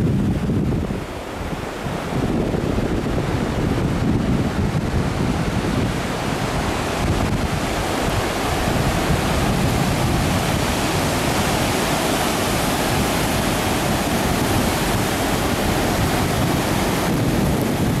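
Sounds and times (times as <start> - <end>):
waves breaking on shore: 0.0 - 18.0
wind on microphone: 0.0 - 18.0.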